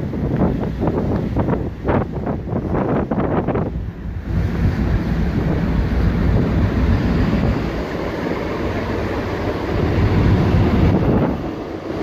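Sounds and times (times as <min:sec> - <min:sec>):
bow wave rushing along hull: 0:00.0 - 0:12.0
deep engine rumble: 0:00.0 - 0:12.0
wind buffeting microphone: 0:00.0 - 0:12.0.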